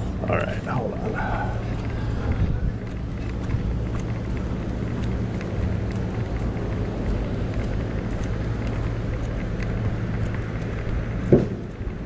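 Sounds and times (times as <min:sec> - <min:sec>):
electric scooter motor hum: 0:00.0 - 0:12.0.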